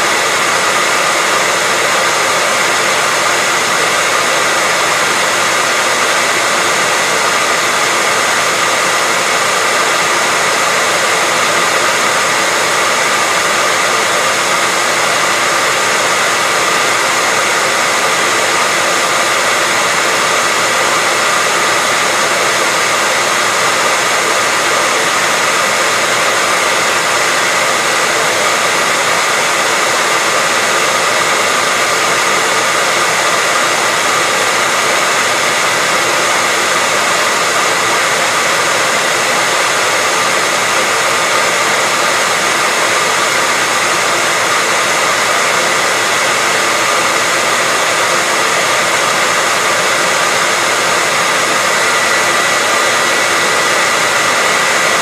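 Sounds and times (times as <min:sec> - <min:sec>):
hair dryer blowing air: 0:00.0 - 0:55.0.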